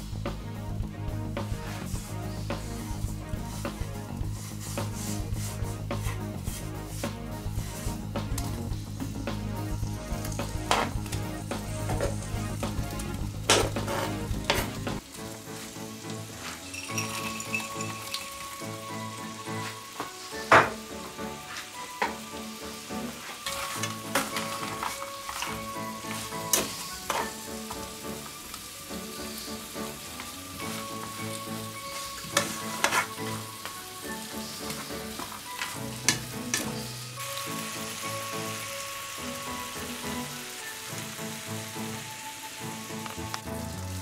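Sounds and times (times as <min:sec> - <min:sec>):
soft background music: 0:00.0 - 0:44.0
food sizzling in a frying pan: 0:01.6 - 0:44.0.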